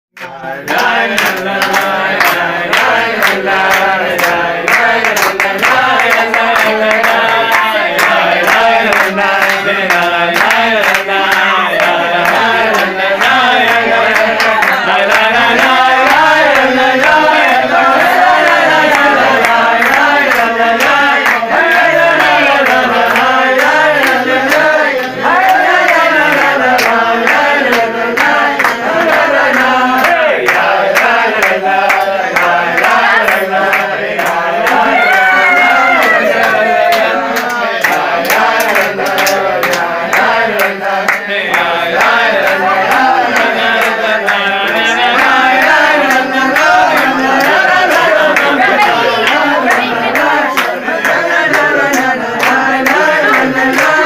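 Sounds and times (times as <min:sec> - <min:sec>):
group singing: 0:00.2 - 0:54.0
hand-clapping: 0:00.2 - 0:54.0.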